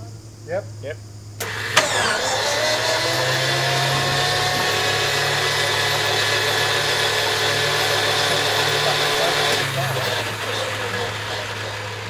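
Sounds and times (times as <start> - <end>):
radial aircraft engine turning over: 1.3 - 12.0
propeller whir and hum: 1.4 - 12.0.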